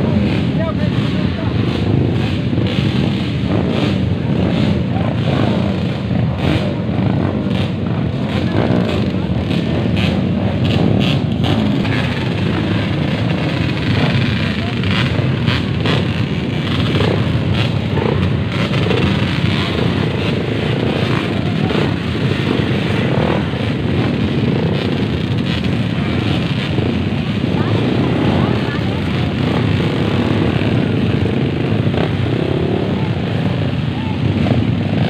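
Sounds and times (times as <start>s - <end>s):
dirt bike engines revving: 0.0s - 35.0s
people's voices: 0.0s - 35.0s.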